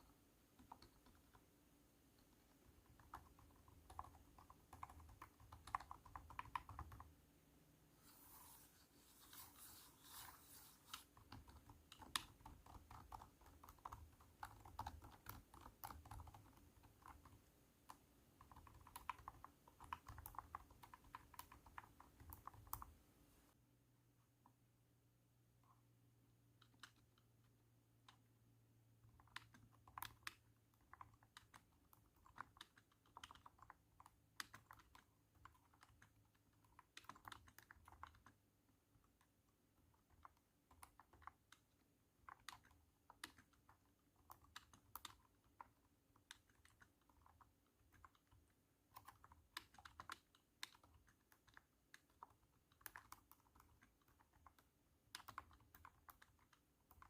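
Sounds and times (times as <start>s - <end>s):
keyboard typing: 0.0s - 7.2s, 8.0s - 23.1s, 26.4s - 57.0s.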